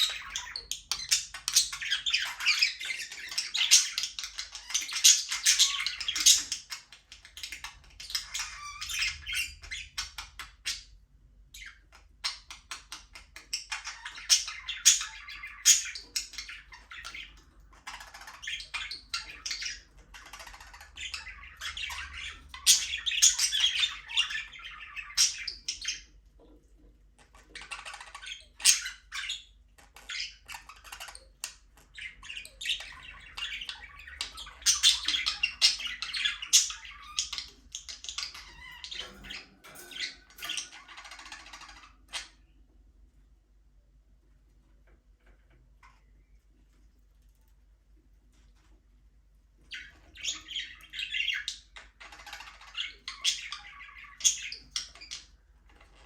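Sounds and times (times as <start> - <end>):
budgerigars chattering and squawking: 0.0 - 42.7, 49.7 - 56.0.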